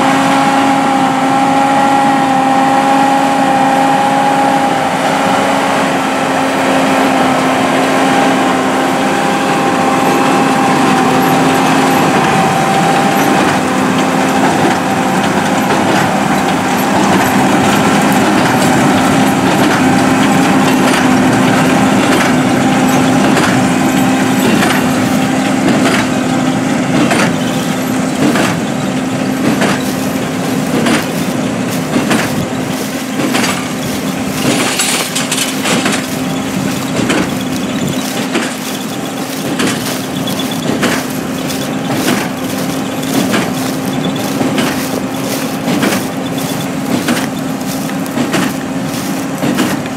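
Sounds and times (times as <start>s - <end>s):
tractor running under load: 0.0s - 49.9s.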